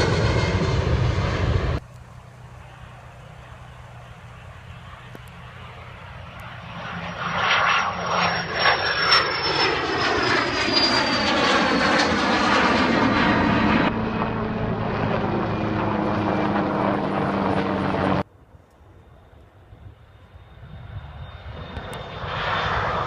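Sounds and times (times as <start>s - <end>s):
airliner passing overhead: 0.0s - 23.0s.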